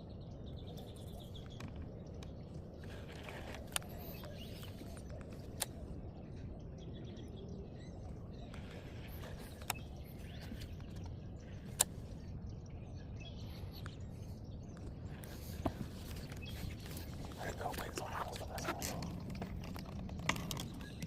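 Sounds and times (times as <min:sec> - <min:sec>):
faint bird chirps: 0:00.0 - 0:21.0
steady low rumble: 0:00.0 - 0:21.0.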